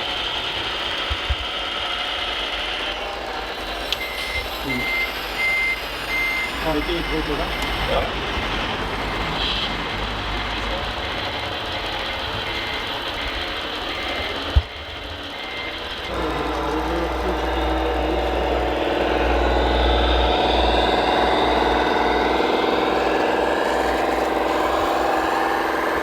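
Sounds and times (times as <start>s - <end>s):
engine-sound hum: 0.0s - 26.0s
motor drone with whine: 0.0s - 26.0s
reversing beeper: 3.5s - 26.0s.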